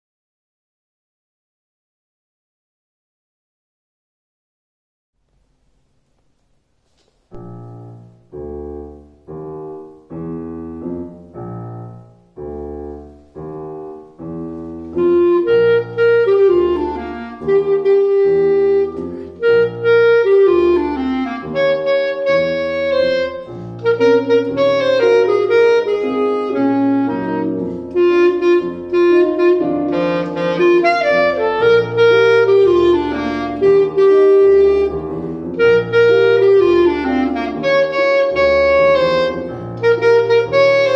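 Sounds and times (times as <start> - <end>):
piano chords: 7.2 - 40.9
clarinet melody: 7.3 - 40.9.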